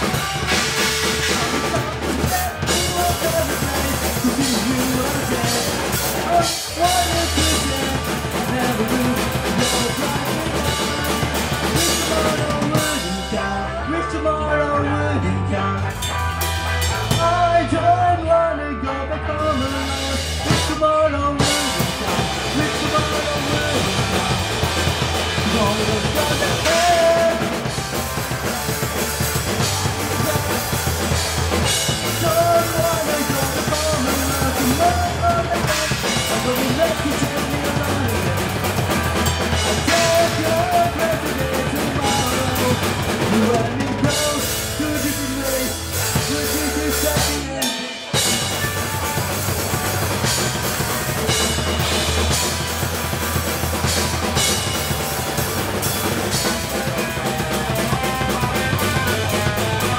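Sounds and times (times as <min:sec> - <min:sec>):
drum kit beat: 0:00.0 - 0:13.8, 0:15.8 - 0:18.0, 0:19.4 - 0:59.9
amplified electric guitar: 0:00.0 - 0:59.9
bass guitar: 0:00.0 - 0:59.9.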